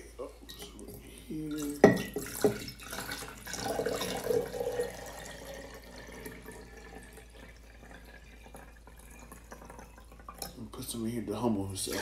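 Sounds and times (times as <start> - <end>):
water pouring into glass jar: 0.5 - 10.6.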